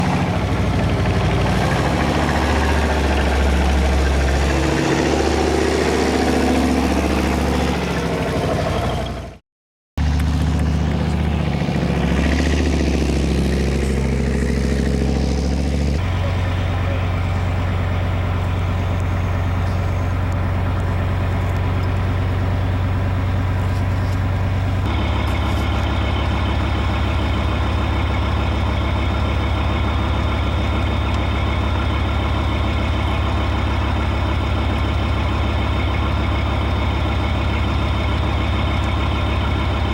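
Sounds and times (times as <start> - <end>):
diesel engine running: 0.0 - 9.4, 10.0 - 39.9.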